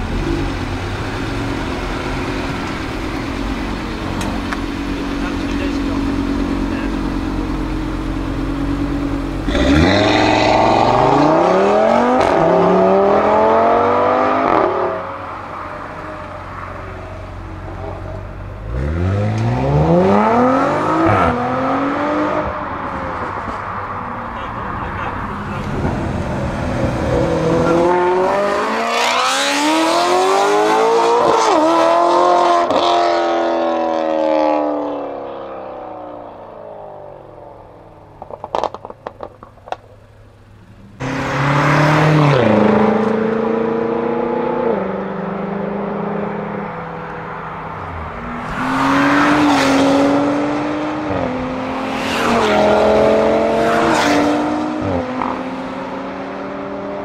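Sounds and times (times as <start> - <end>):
cars accelerating past: 0.0 - 39.4, 41.0 - 57.0.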